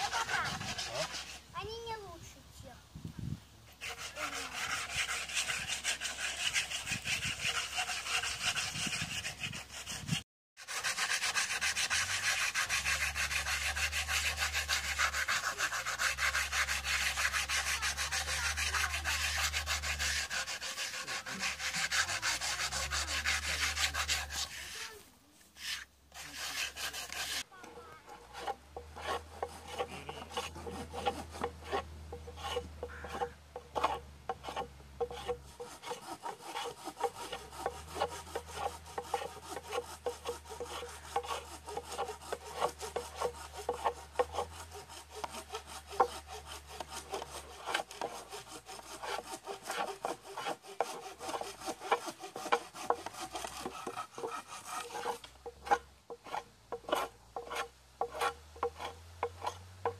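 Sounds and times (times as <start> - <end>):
hand saw cutting wood: 0.0 - 2.0, 3.7 - 59.9.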